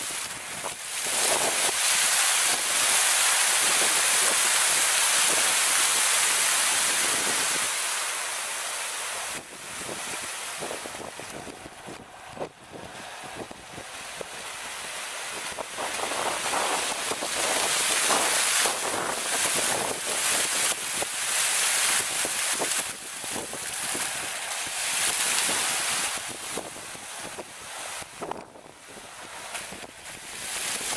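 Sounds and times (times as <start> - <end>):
fountain jets spraying and splashing: 0.0 - 30.9.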